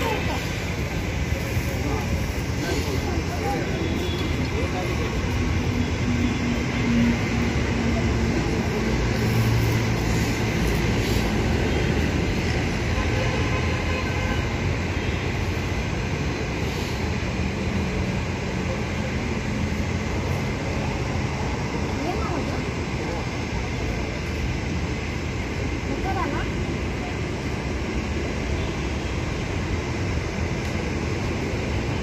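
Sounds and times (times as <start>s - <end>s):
faint voices: 0.0s - 13.5s, 14.5s - 28.5s.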